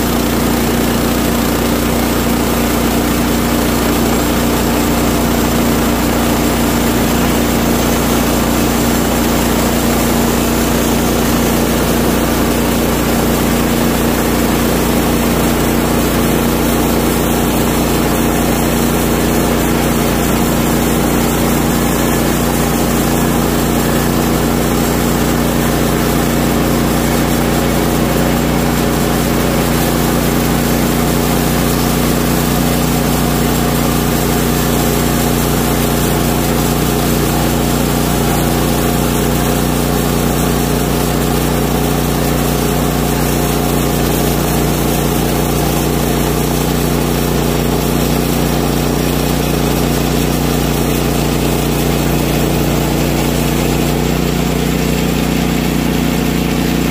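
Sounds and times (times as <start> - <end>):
sawmill engine running under load: 0.0 - 56.9
blade cutting through log: 0.1 - 56.9.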